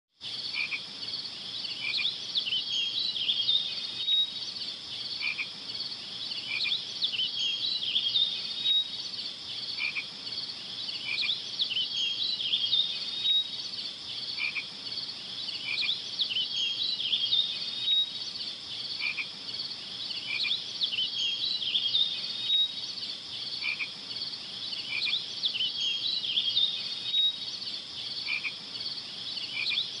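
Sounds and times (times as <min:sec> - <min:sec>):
short regular frog calls: 0:00.2 - 0:02.9, 0:04.0 - 0:07.6, 0:08.6 - 0:30.0
frogs chirping and trilling: 0:00.2 - 0:30.0.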